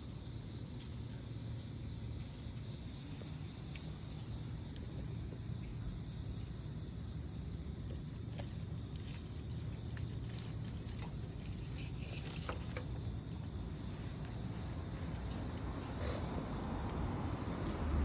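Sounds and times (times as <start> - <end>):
campfire crackling and popping: 0.0 - 18.0
fire low rumble: 0.0 - 18.0.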